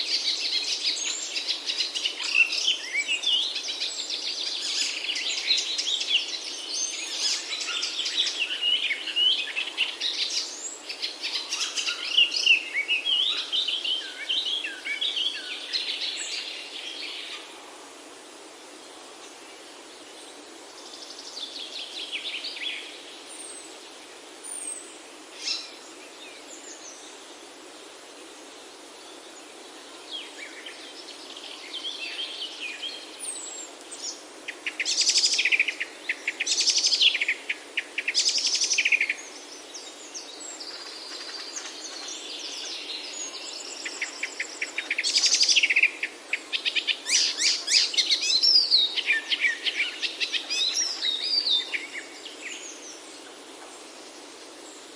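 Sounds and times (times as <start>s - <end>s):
faint background hiss: 0.0s - 54.9s
songbirds chirping and trilling: 0.0s - 54.9s.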